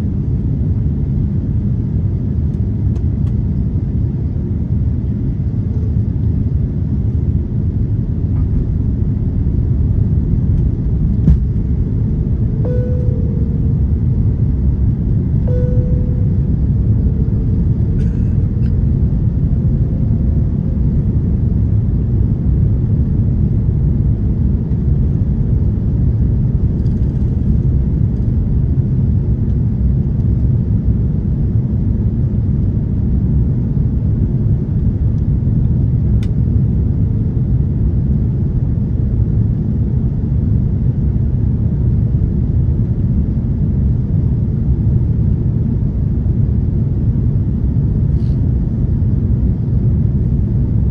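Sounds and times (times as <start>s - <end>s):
airplane cabin rumble: 0.0s - 50.9s.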